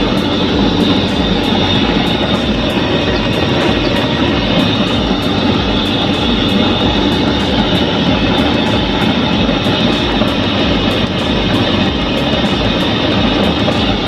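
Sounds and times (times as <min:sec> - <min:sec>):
burner flame and blower rushing: 0:00.0 - 0:14.0.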